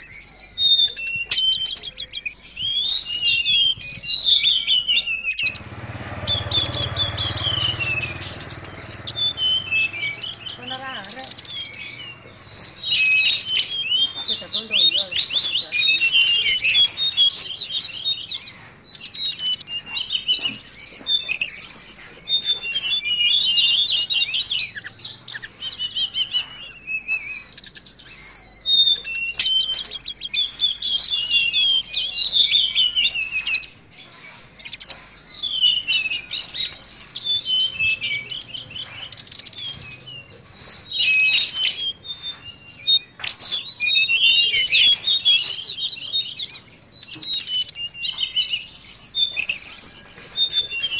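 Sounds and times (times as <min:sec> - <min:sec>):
bird singing high twittering phrases: 0:00.0 - 0:50.9.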